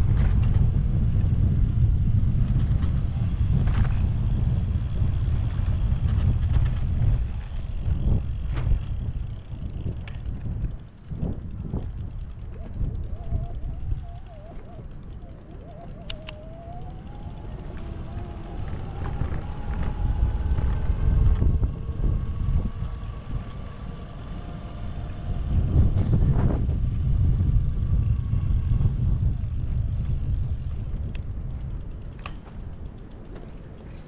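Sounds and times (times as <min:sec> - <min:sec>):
faint rising whine: 0:00.0 - 0:33.6
wind rumbling on microphone: 0:00.0 - 0:34.0.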